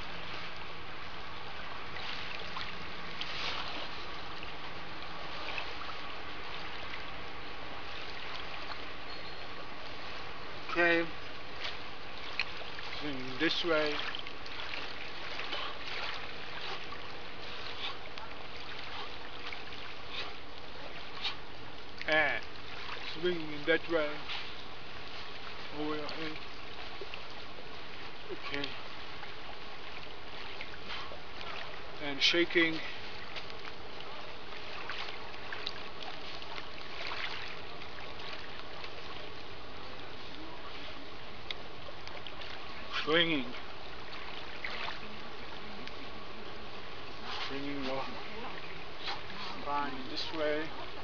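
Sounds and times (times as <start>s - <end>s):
faint water splashes: 0.0s - 51.0s
waves lapping on pebbly shore: 0.0s - 51.0s.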